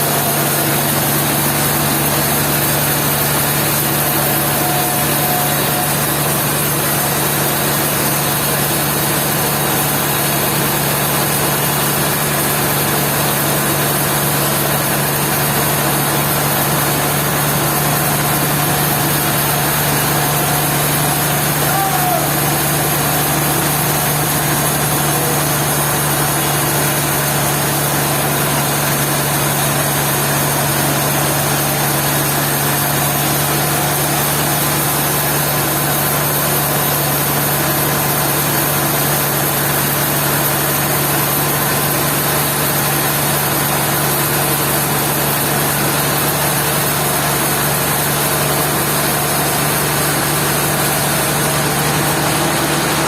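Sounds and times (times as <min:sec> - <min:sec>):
sawmill machinery drone: 0:00.0 - 0:53.0.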